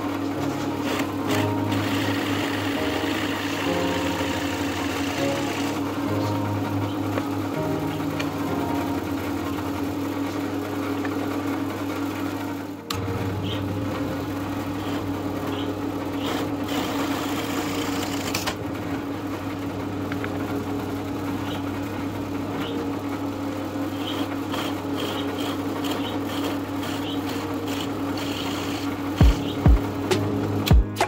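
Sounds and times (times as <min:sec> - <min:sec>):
drill press motor running: 0:00.0 - 0:30.1.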